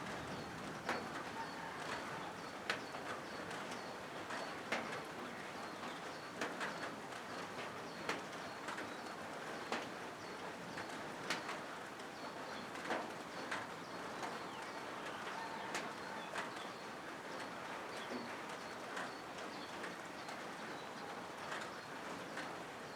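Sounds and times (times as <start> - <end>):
rain on a metal roof: 0.0 - 22.9.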